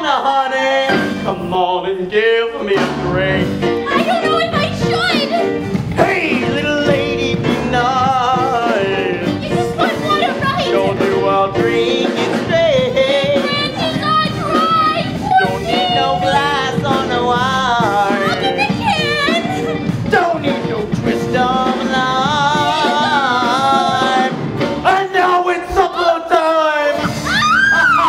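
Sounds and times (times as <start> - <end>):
backing music: 0.0 - 28.0
person singing: 0.0 - 28.0.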